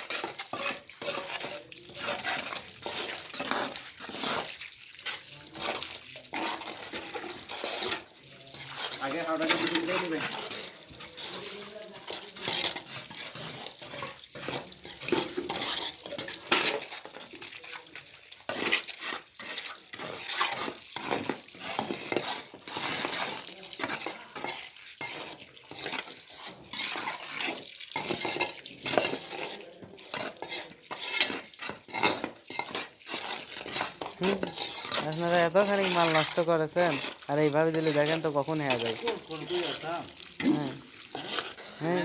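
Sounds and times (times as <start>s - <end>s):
metal tools scraping wet concrete: 0.0s - 42.0s.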